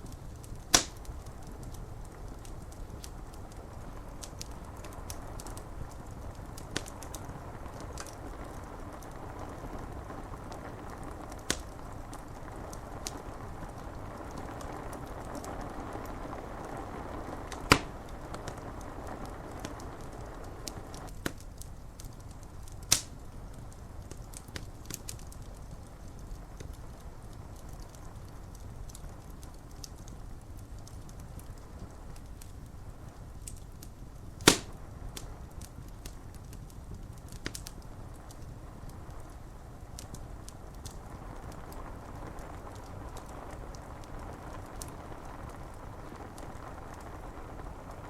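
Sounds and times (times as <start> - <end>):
fire pops: 0.0 - 48.0
wood fire crackling: 0.0 - 48.0
rain on window glass: 0.1 - 48.0.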